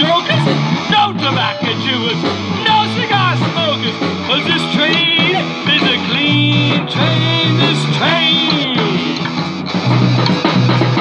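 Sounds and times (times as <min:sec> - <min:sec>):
lead guitar bending and sliding: 0:00.0 - 0:11.0
rock band playing: 0:00.0 - 0:11.0.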